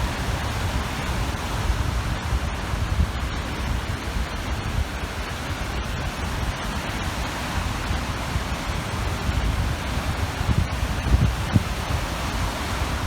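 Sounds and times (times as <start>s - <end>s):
small waves washing ashore: 0.0s - 13.0s
wind rumble on microphone: 0.0s - 13.0s.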